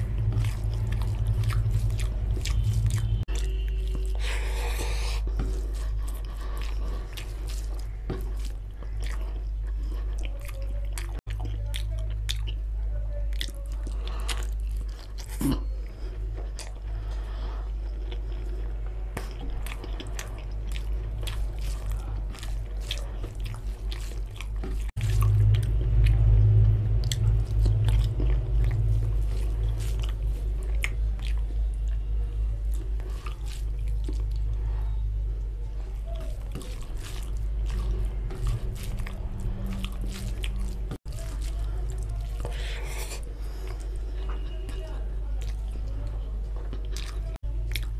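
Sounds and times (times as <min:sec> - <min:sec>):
chewing with wet mouth sounds: 0:00.0 - 0:47.9
steady low hum: 0:00.0 - 0:47.9.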